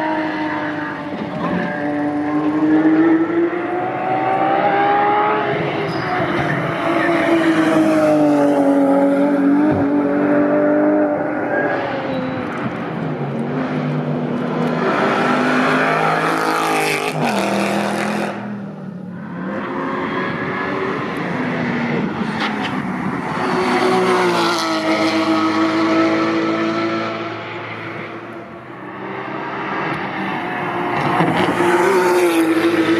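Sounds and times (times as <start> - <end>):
racing cars driving past: 0.0 - 32.9.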